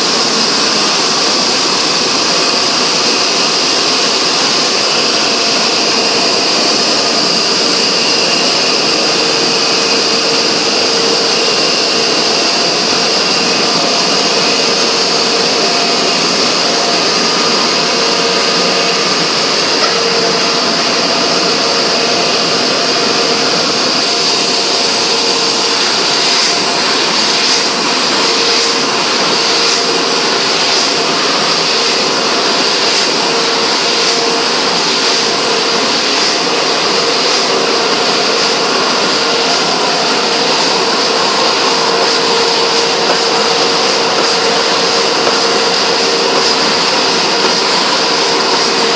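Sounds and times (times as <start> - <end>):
printing press whirring: 0.0 - 48.9.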